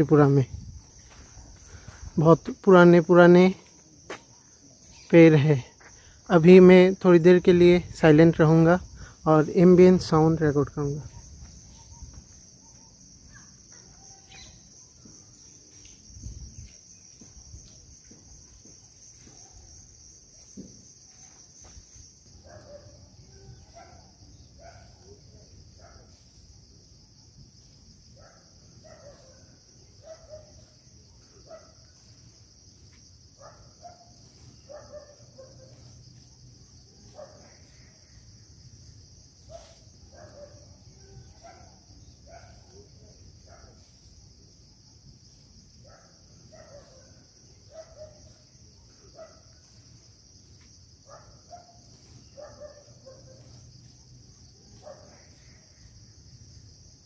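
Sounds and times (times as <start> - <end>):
crickets droning: 0.0 - 57.0
short insect calls: 0.0 - 57.0.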